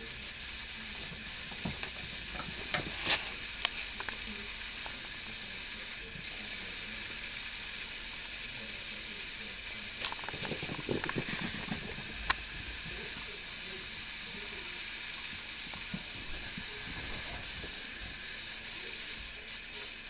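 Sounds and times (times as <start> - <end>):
microphone hiss: 0.0 - 20.0.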